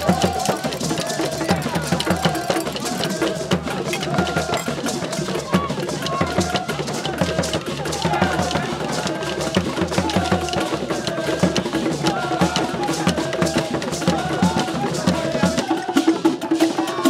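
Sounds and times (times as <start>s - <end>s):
hand-struck barrel drums: 0.0s - 17.0s.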